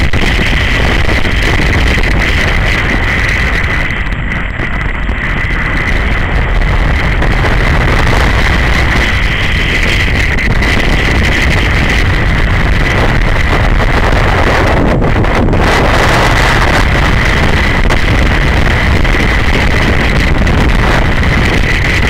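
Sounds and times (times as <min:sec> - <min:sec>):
high-pitched whine: 0:00.0 - 0:22.0
motorcycle engine running: 0:00.0 - 0:22.0
wind rushing over microphone: 0:00.0 - 0:22.0.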